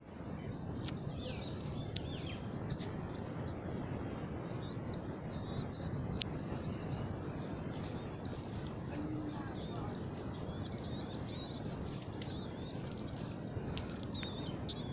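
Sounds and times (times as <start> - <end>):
small birds chirping: 0.0 - 3.7, 4.4 - 14.9
steady background noise: 0.0 - 14.9.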